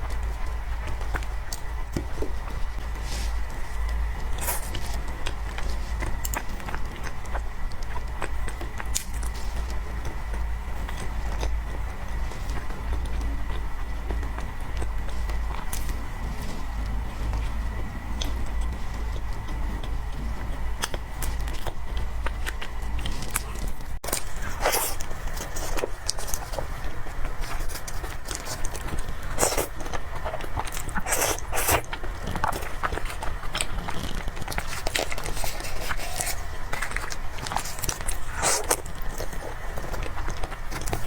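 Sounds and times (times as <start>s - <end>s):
person chewing soft cake: 0.0s - 41.0s.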